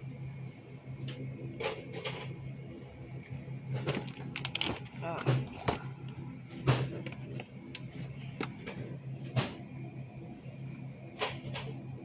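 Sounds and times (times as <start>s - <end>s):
freezer cases humming: 0.0s - 12.0s.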